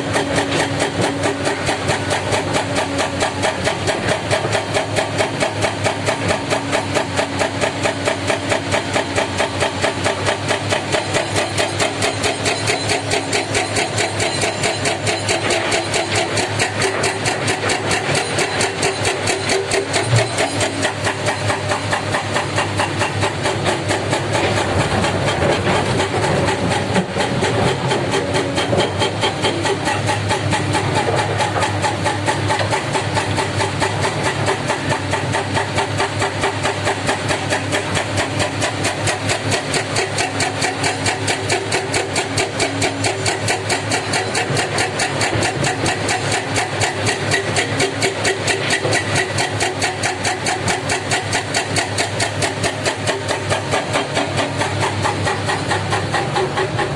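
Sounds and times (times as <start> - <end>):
heavy diesel engine chugging: 0.0 - 56.9.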